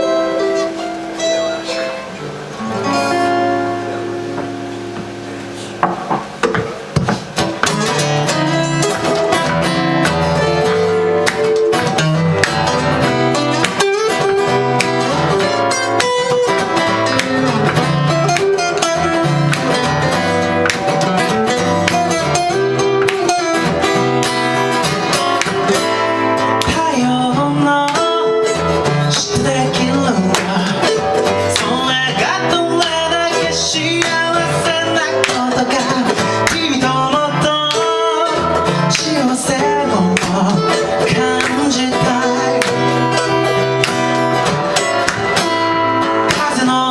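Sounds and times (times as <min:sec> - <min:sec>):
acoustic guitar strummed: 0:00.0 - 0:46.9.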